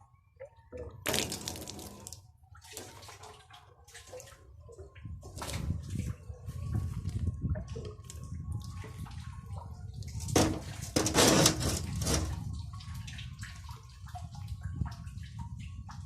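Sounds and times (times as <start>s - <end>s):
rushes of water: 1.0s - 16.0s
water splashing and running: 1.0s - 16.0s.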